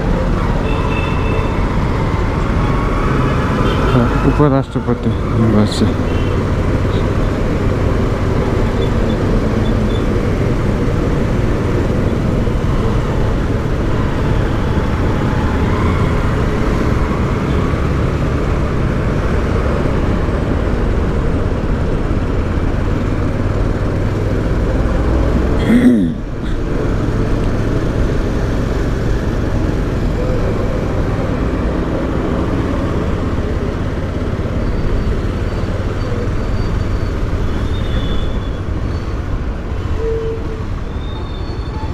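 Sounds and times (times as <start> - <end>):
road noise: 0.0 - 41.9.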